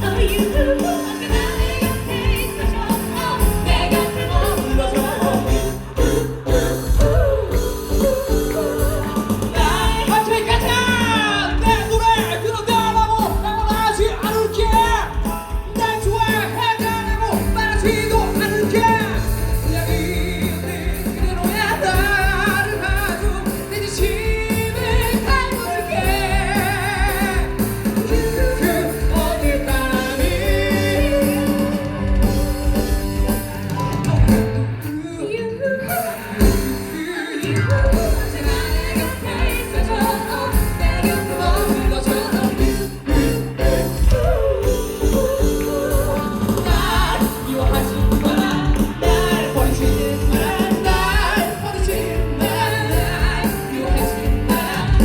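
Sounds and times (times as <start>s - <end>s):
band accompaniment: 0.0s - 55.0s
person singing with vibrato: 0.0s - 55.0s.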